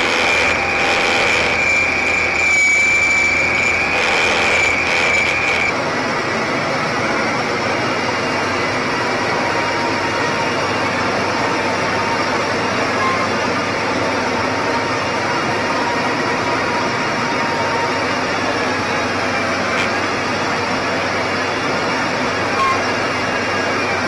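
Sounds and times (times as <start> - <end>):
heavy machine engine drone: 0.0 - 24.0
high steady whine: 0.0 - 24.0.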